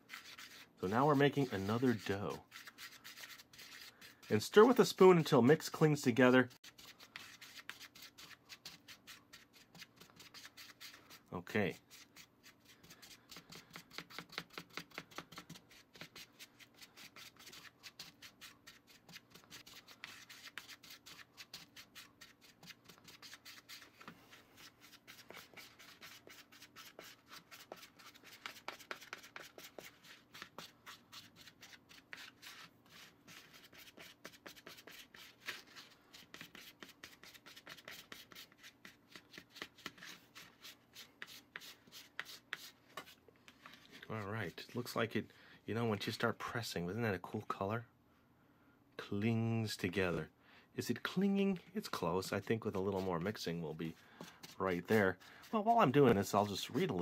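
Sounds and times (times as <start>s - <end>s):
plastic spoon stirring in bowl: 0.0s - 45.0s, 51.0s - 57.0s.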